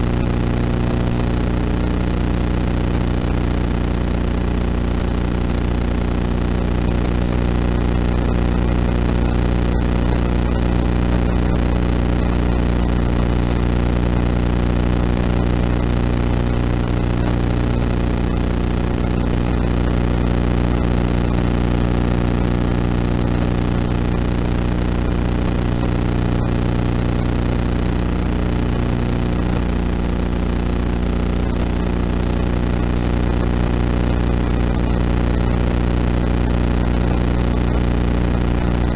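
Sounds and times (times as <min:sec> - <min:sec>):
noise haze: 0:00.0 - 0:38.9.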